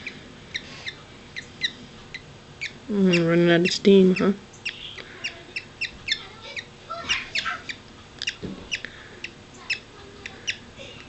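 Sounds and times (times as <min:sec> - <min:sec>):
parakeet chick cheeping: 0:00.0 - 0:11.0.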